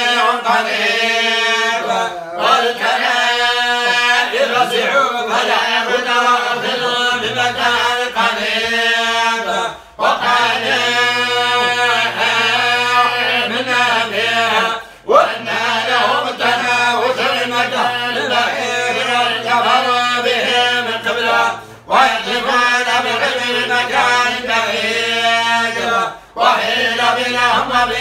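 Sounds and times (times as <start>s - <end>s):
man chanting religious recitation: 0.0s - 28.0s.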